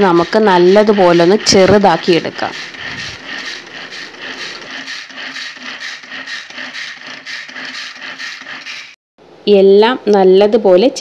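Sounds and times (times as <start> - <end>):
pull-cord chopper whirring rattle: 0.0 - 9.0.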